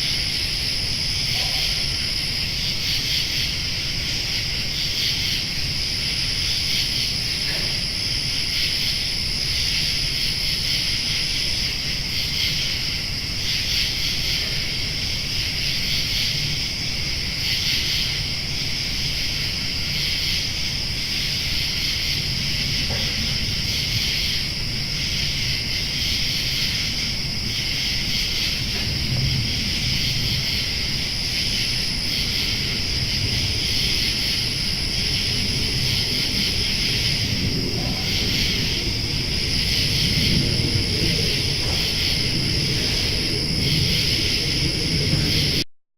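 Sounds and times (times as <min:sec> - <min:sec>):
insects chirring: 0:00.0 - 0:45.6.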